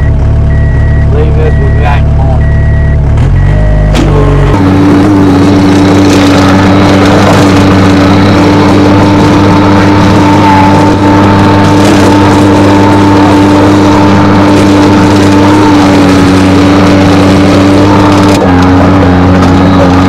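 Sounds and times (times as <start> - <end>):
diesel engine running at high revs: 0.0 - 20.0.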